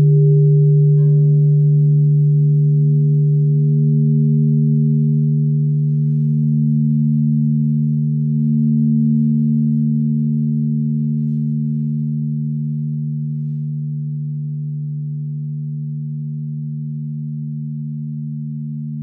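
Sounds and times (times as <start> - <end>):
crystal singing bowls ringing: 0.0 - 19.0.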